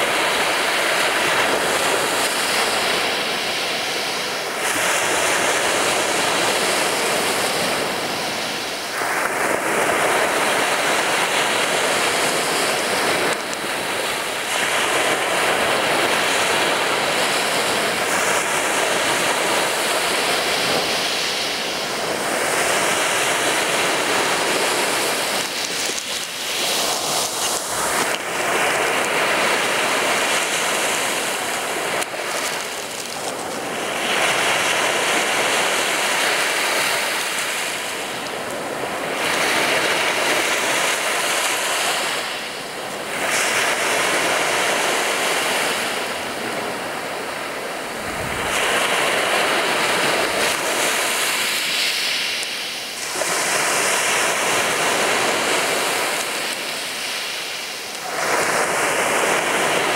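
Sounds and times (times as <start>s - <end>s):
sea waves breaking on a beach: 0.0s - 59.9s.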